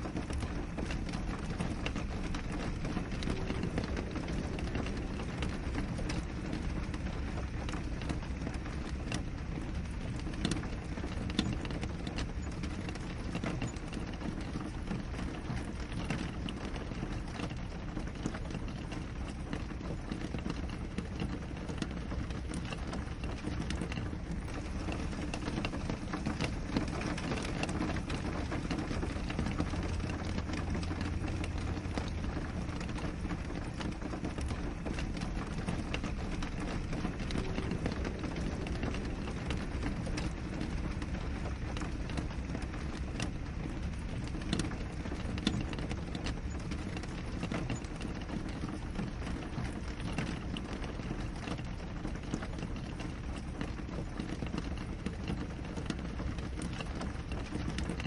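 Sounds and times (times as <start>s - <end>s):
rain on a window: 0.0s - 58.0s
raindrops ticking: 0.0s - 58.0s.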